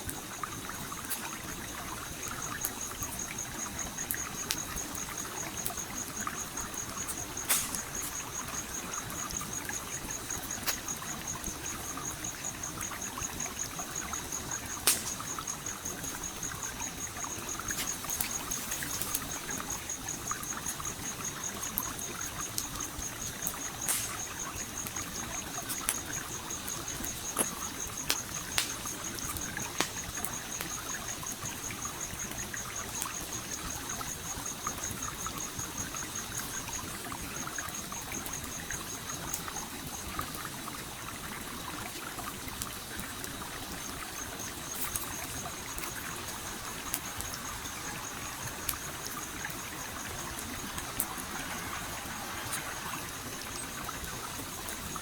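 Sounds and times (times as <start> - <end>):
campfire crackling and popping: 0.0 - 40.3, 42.4 - 55.0
stream flowing: 0.1 - 55.0.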